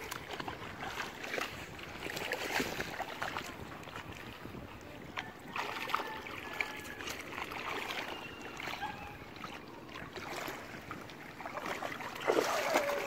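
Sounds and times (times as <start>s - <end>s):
seawater splashing and lapping: 0.0s - 13.0s.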